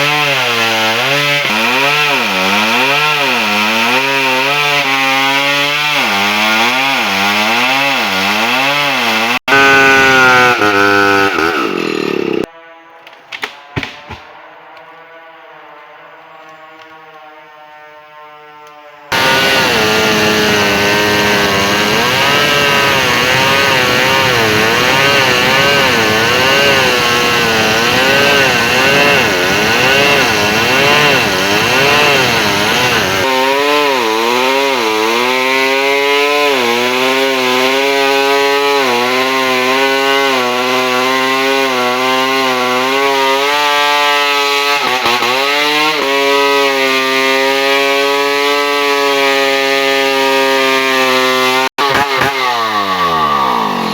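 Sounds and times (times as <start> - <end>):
chainsaw engine at high revs: 0.0 - 12.5, 18.7 - 53.9.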